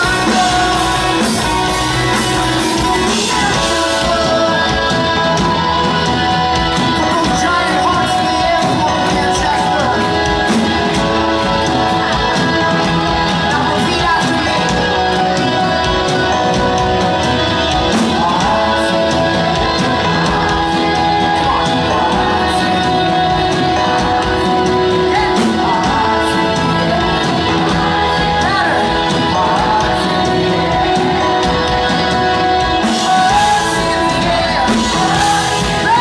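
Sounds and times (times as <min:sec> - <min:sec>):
man singing into a microphone: 0:00.0 - 0:36.0
pop-rock band playing: 0:00.0 - 0:36.0.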